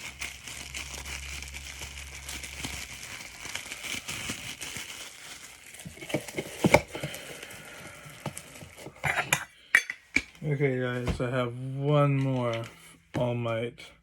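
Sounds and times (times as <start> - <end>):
plastic packaging crinkling: 0.0 - 9.3, 10.7 - 12.8.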